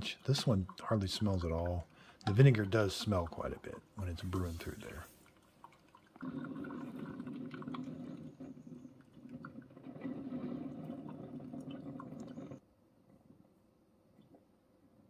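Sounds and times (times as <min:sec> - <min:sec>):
liquid stream splashing into carafe: 0:00.0 - 0:12.6.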